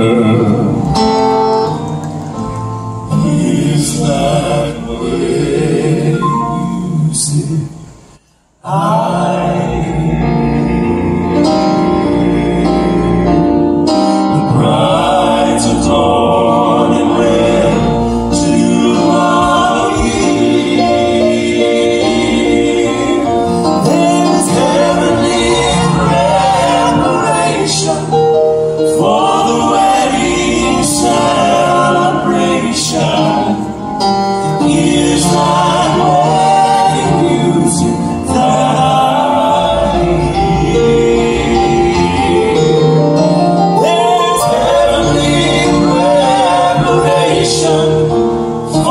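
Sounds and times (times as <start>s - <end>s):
male vocal quartet singing: 0.0s - 1.8s, 2.8s - 48.9s
piano accompaniment: 0.0s - 48.9s.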